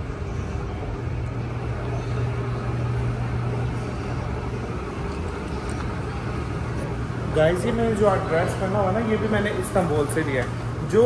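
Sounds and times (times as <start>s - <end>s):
escalator machinery humming: 0.0s - 11.0s
shop background noise: 0.0s - 11.0s.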